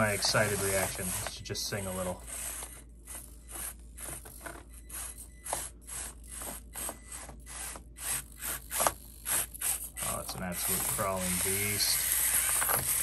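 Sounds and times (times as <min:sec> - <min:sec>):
gear motors grinding: 0:00.0 - 0:13.0.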